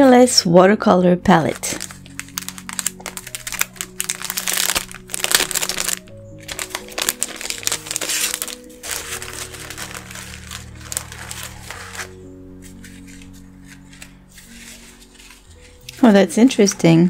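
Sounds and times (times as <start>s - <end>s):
soft background music: 0.0s - 17.0s
plastic sleeve crinkling: 1.3s - 16.8s.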